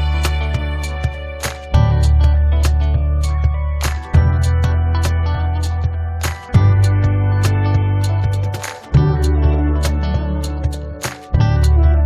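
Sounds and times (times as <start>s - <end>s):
regular percussive beat: 0.0s - 11.8s
sustained bass notes: 0.0s - 12.0s.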